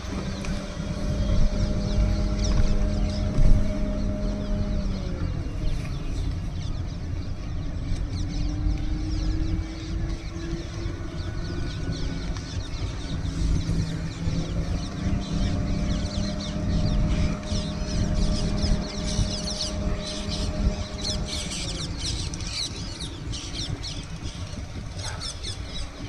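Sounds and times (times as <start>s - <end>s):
birds chirping: 0.0s - 26.0s
vehicle engine humming: 0.0s - 26.0s.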